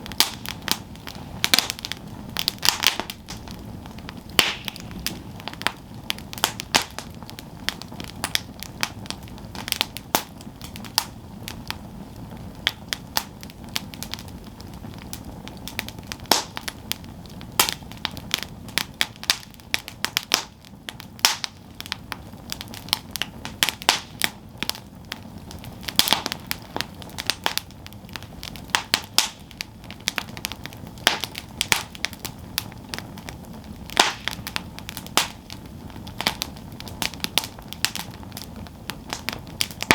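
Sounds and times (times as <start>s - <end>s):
burning wood crackling and popping: 0.0s - 39.9s
campfire flames rushing: 0.0s - 39.9s.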